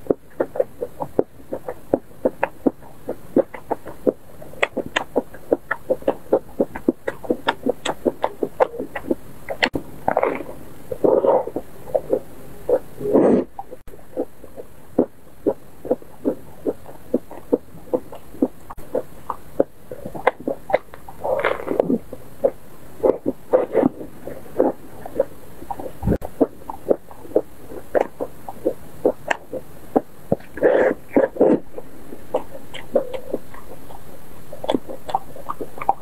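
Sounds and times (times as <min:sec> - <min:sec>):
wet chewing clicks and smacks: 0:00.0 - 0:12.2, 0:13.6 - 0:36.0.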